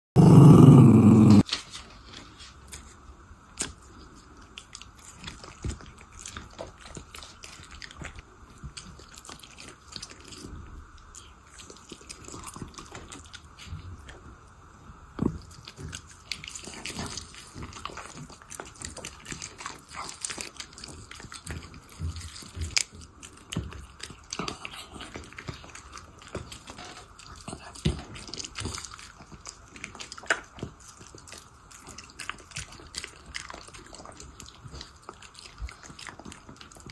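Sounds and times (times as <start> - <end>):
puppy chewing food: 0.2 - 36.9.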